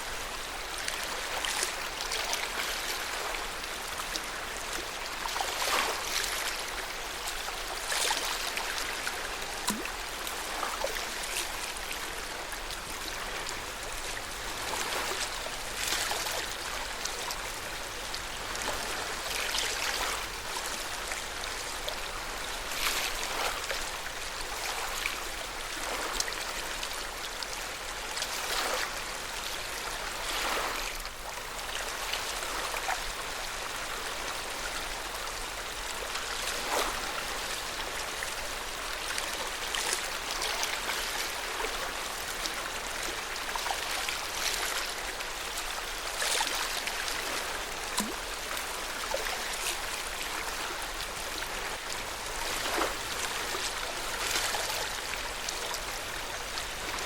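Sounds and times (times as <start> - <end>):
water splashes: 0.0 - 57.0
lake water lapping at shore: 0.3 - 57.0.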